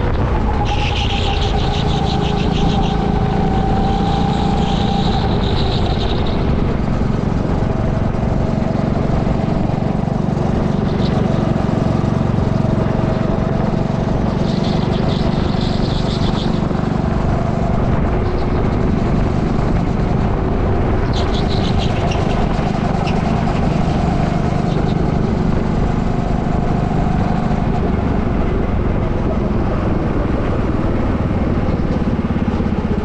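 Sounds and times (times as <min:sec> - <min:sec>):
go-kart engine at speed: 0:00.0 - 0:33.0
wind noise: 0:00.0 - 0:33.0.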